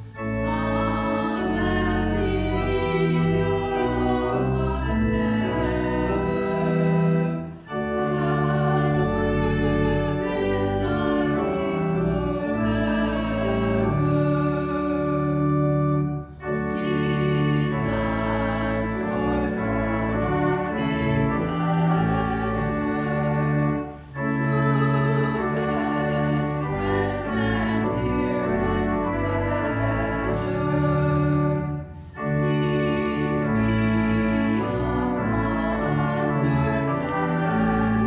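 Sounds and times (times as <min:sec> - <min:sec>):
hymn music with held chords: 0:00.0 - 0:38.0.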